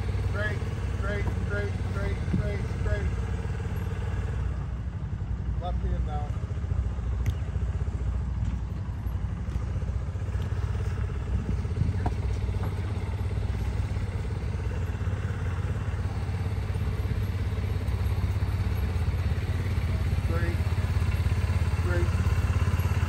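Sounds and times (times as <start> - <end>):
engine running at low speed: 0.0 - 23.0.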